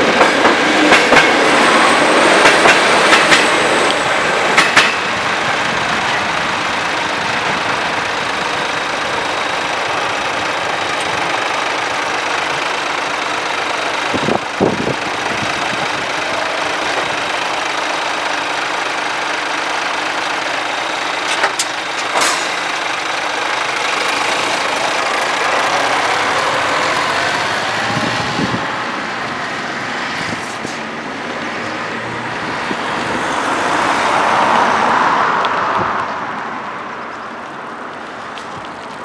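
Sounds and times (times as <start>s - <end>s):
diesel truck engine accelerating: 1.3s - 37.0s.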